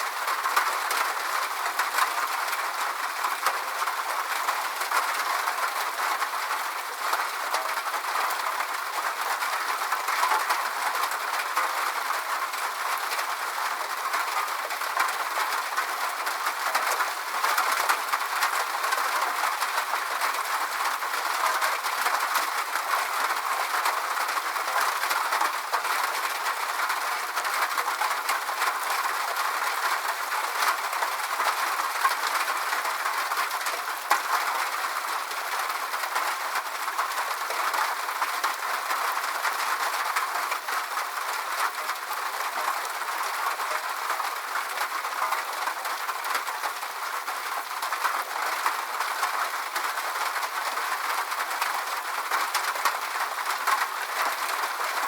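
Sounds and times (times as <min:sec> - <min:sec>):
rain drops ticking: 0:00.0 - 0:55.0.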